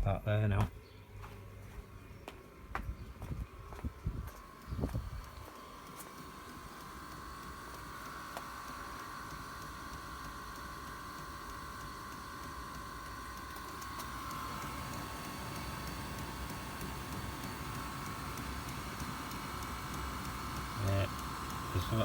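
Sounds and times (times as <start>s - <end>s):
heater fan motor whining: 0.0s - 22.0s.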